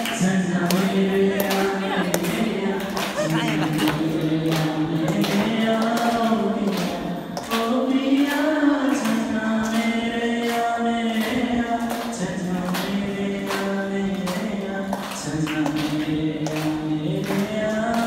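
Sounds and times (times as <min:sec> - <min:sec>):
young men singing together: 0:00.0 - 0:18.0.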